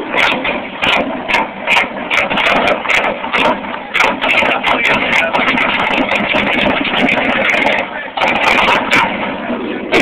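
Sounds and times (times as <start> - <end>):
car engine running loudly: 0.0 - 10.0
exhaust pops and crackles: 0.0 - 10.0.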